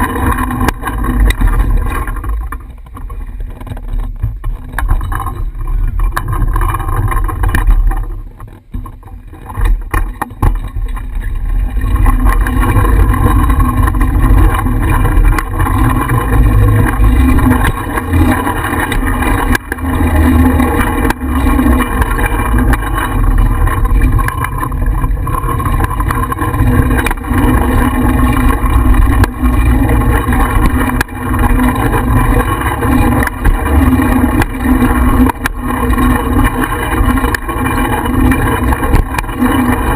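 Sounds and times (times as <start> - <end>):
road rumble: 0.0 - 39.9
small clicks and rattles: 0.0 - 39.9.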